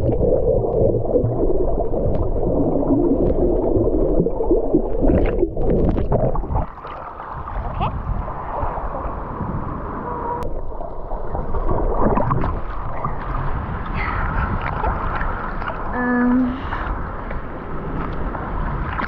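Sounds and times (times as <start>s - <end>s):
water sloshing: 0.0s - 8.8s, 10.4s - 19.0s
wind on microphone: 0.0s - 19.0s.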